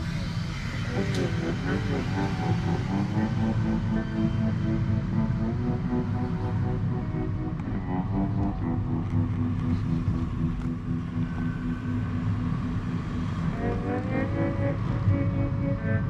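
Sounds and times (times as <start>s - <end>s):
background music with held chords: 0.0s - 16.0s.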